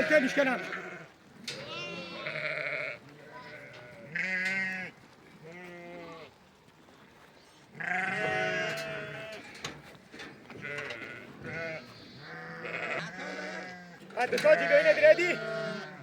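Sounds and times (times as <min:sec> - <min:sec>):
sheep bleating: 0:00.0 - 0:06.4, 0:07.7 - 0:09.5, 0:10.5 - 0:16.0.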